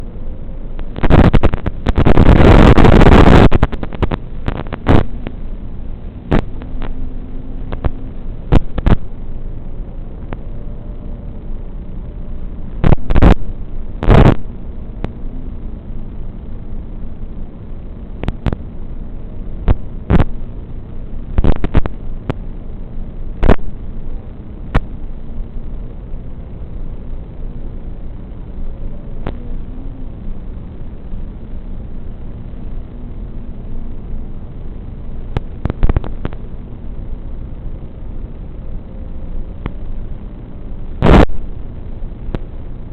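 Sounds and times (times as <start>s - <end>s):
drone motor and propeller noise: 0.0s - 42.9s.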